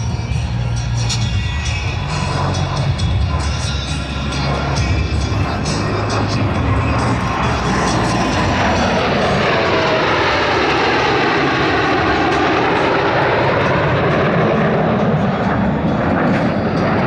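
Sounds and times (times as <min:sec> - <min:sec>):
jets passing low overhead: 0:00.0 - 0:17.0.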